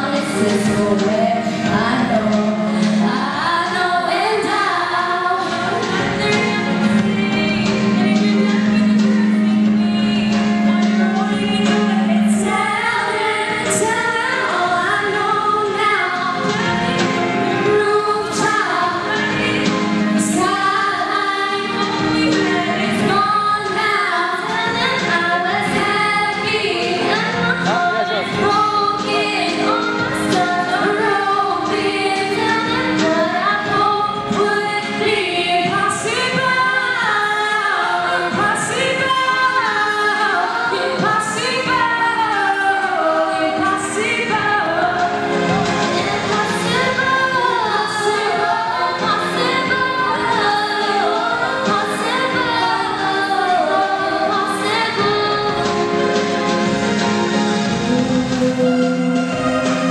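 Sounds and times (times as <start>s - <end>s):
women singing in harmony: 0.0s - 59.9s.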